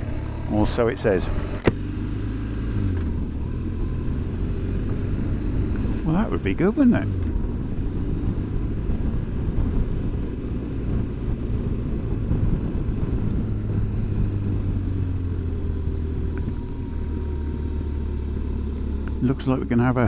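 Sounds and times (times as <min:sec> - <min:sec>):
motorcycle engine droning: 0:00.0 - 0:20.0
road noise: 0:00.0 - 0:20.0.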